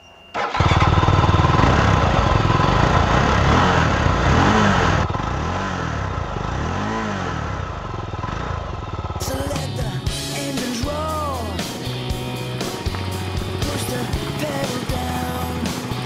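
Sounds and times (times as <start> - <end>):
motorcycle engine revving: 0.4 - 16.0.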